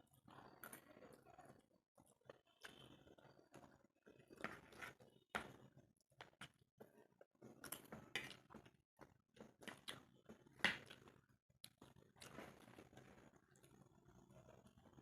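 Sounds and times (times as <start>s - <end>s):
chewing food close-up: 0.0s - 15.0s.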